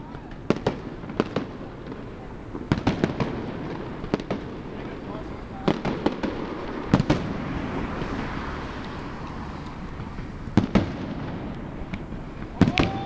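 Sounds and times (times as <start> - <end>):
fireworks bursting: 0.0 - 13.0
steady hiss: 0.0 - 13.0.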